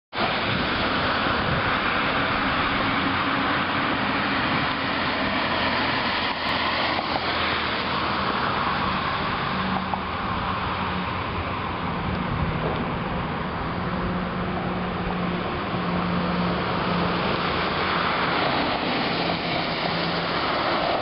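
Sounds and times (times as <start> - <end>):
car tyres hissing on wet road: 0.2 - 12.0, 15.4 - 21.0
electric train humming: 0.2 - 21.0.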